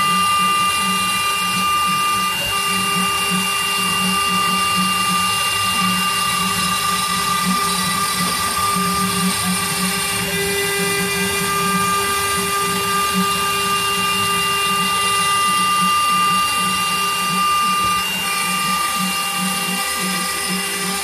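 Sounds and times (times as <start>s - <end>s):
cnc spindle high whine: 0.0s - 21.0s
low fluttering machine hum: 0.0s - 21.0s.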